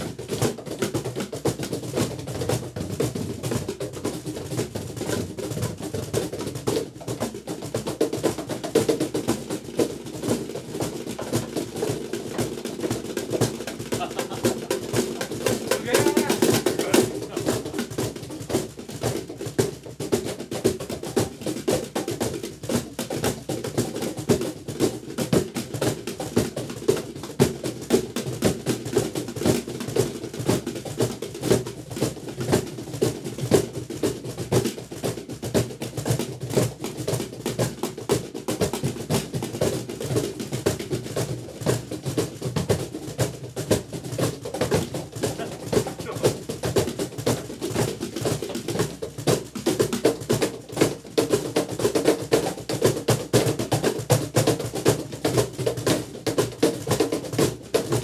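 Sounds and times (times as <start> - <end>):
cajons played by hand: 0.0 - 58.0.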